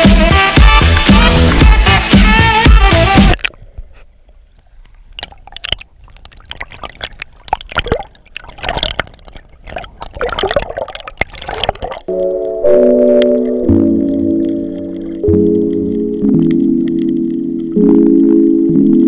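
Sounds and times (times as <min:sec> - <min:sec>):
water sloshing and bubbling: 0:03.4 - 0:19.0.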